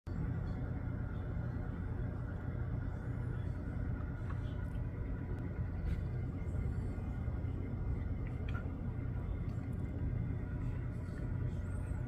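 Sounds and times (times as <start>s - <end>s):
low outdoor rumble: 0.1s - 12.0s.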